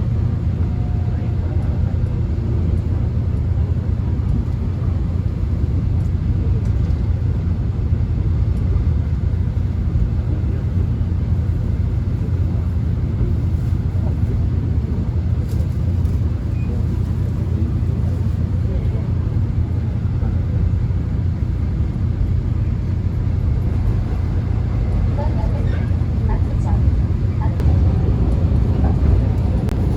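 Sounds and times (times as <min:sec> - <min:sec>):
subway car rumble: 0:00.0 - 0:29.9.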